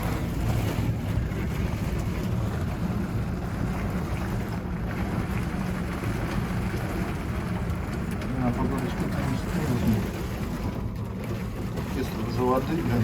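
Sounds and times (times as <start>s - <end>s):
storm wind buffeting cabin: 0.0s - 13.0s.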